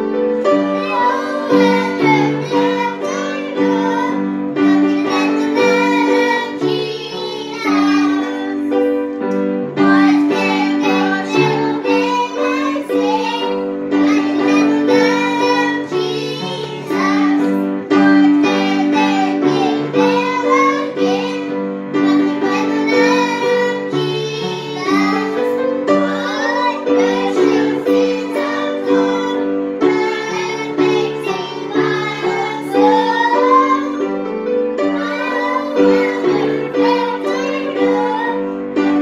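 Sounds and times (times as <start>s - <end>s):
piano chords: 0.0s - 39.0s.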